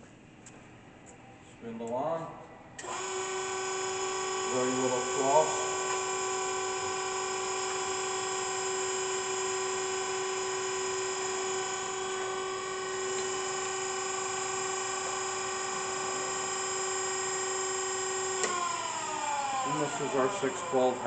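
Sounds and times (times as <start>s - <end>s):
surface grinder whining: 2.8s - 21.0s.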